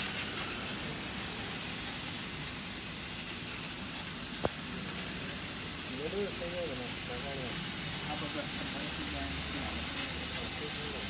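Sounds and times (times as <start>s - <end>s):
high steady whine: 0.0s - 11.0s
laser cutter hiss: 0.0s - 11.0s.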